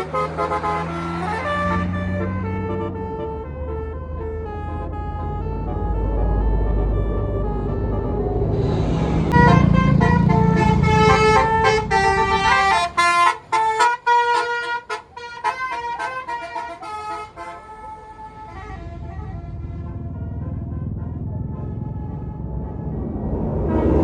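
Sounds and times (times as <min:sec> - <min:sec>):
multi-tone horn melody: 0:00.0 - 0:08.3, 0:09.3 - 0:23.0
bus engine rumbling: 0:00.0 - 0:24.0.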